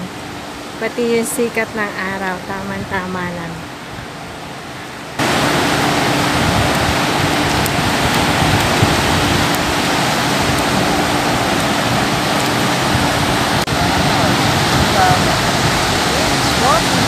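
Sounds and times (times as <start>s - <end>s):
faint steady hum: 0.0s - 17.0s
ocean surf: 0.0s - 17.0s
wind: 0.0s - 17.0s.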